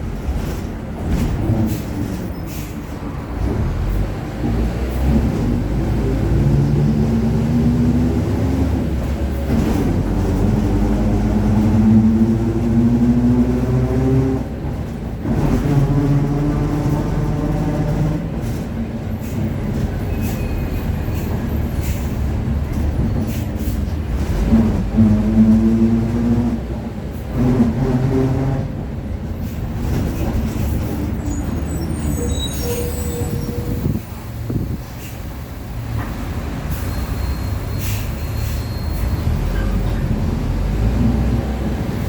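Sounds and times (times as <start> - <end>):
bus engine hum climbing in pitch: 0.0 - 42.0.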